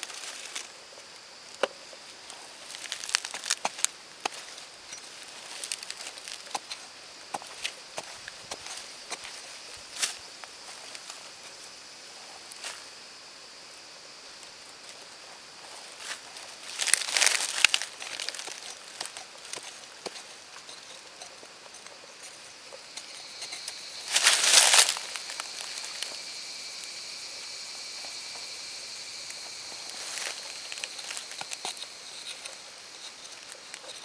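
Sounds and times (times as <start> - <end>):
gritty scraping of dry soil: 0.0 - 12.9, 14.9 - 34.0.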